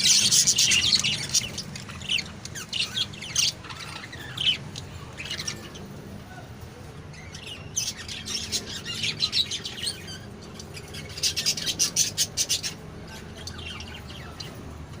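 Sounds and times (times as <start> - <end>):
parakeet chirping: 0.0 - 6.0, 7.1 - 14.7.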